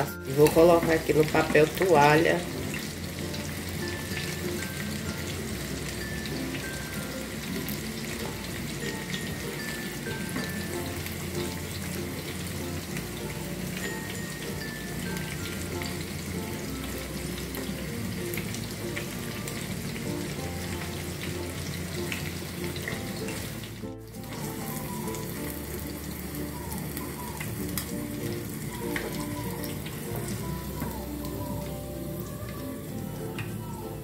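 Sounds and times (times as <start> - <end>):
chicken deep-frying in oil: 0.0 - 34.0.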